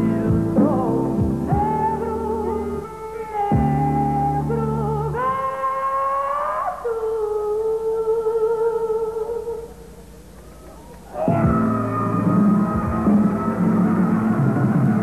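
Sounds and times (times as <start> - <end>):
slow music with long held notes: 0.0 - 15.0.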